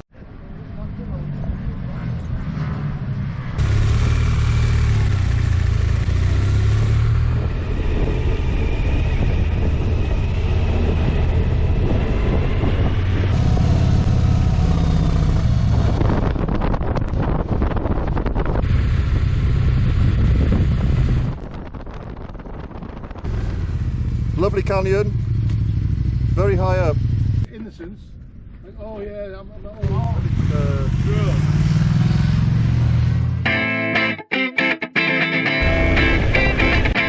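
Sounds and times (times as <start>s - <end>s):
road and wind noise: 0.0s - 34.2s, 35.5s - 37.0s
motorcycle engines running: 0.6s - 28.7s, 29.5s - 33.5s.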